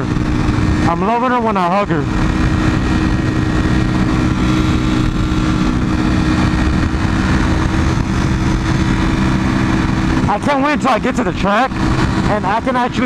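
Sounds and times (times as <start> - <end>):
motorcycle engine pulling steadily: 0.0 - 13.0
wind rush over microphone: 0.0 - 13.0.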